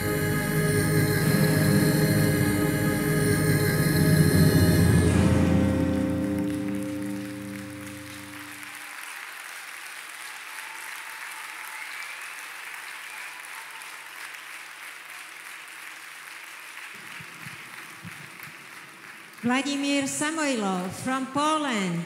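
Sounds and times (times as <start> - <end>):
audience applauding: 0.0 - 20.9.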